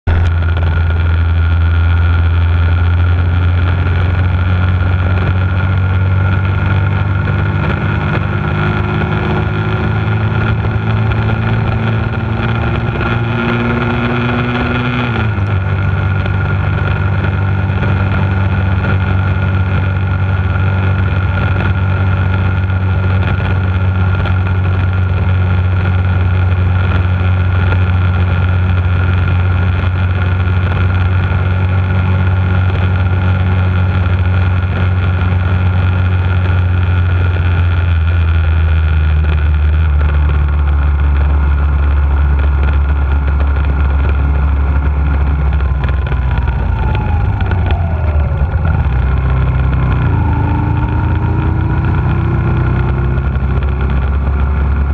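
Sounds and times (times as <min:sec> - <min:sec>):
motorcycle engine riding: 0:00.0 - 0:54.9.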